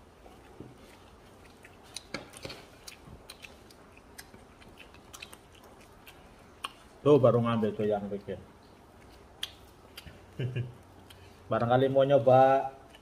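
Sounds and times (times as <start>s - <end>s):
people chewing and lip smacking: 0.0s - 11.6s, 12.7s - 13.0s.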